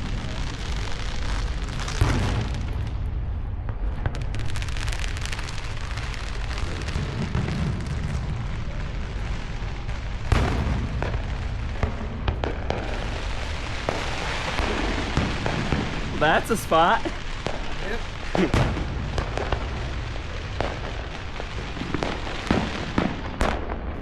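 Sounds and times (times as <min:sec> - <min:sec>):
fireworks booming and crackling: 0:00.0 - 0:24.0
loud firework bang: 0:00.0 - 0:24.0.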